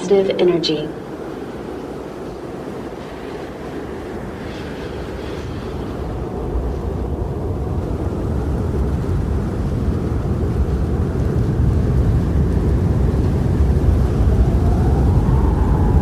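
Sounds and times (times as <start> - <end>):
rumbling storm wind: 0.0 - 16.0.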